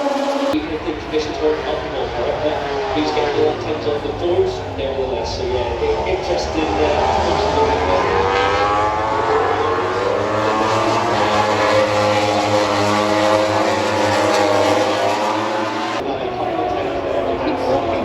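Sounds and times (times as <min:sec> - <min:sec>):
racing motorcycles passing: 0:00.0 - 0:18.0.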